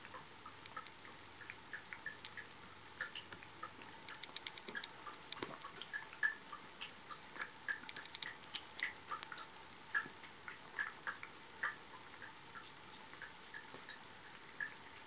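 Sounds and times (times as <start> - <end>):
cat licking its paw: 0.1 - 14.7.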